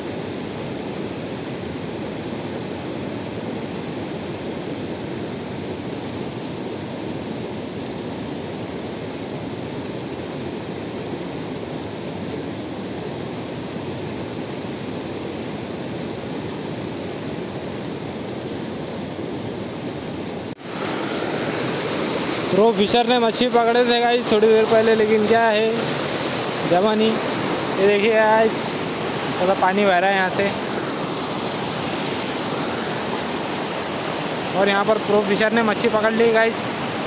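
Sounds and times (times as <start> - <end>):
river rushing over rapids: 0.0 - 37.0.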